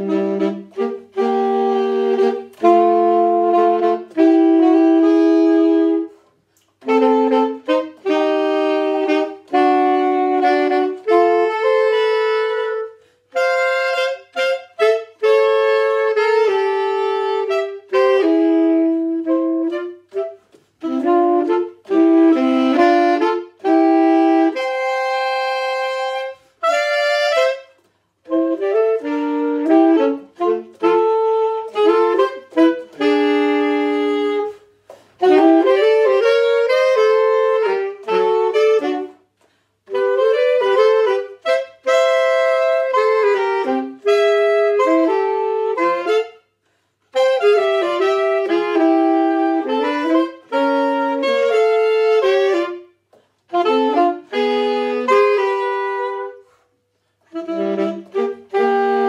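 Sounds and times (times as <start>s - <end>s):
saxophone duet: 0.0s - 59.0s.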